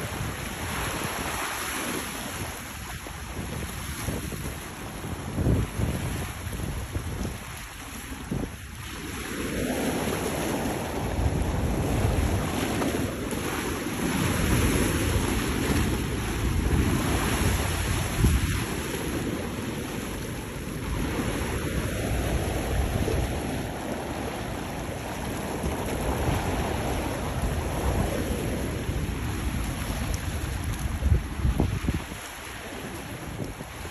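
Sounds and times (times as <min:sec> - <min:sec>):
sea surf: 0:00.0 - 0:33.9
wind buffeting microphone: 0:00.0 - 0:33.9.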